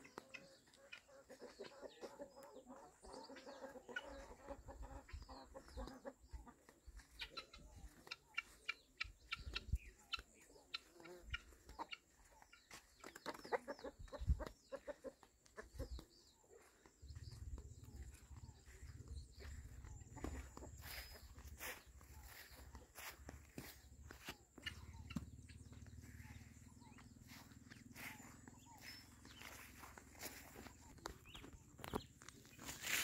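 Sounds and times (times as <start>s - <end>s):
chickens clucking and calling: 0.0s - 33.0s.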